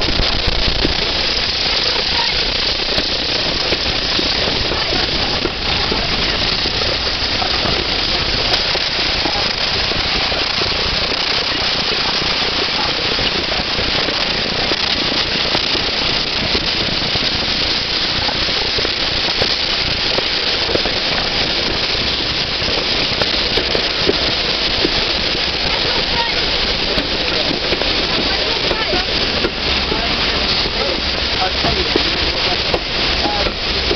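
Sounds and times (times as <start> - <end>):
train wheels clattering on rails: 0.0 - 33.9.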